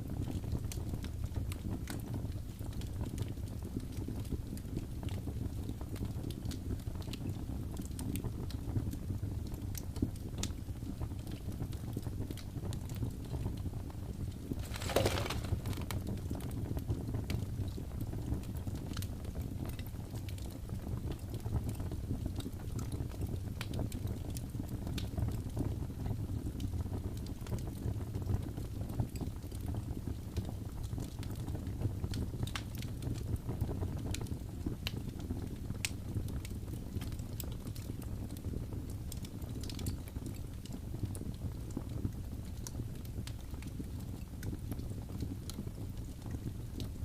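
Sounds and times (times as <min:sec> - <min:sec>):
fire crackling and popping: 0:00.0 - 0:47.0
low rumble of flames: 0:00.0 - 0:47.0.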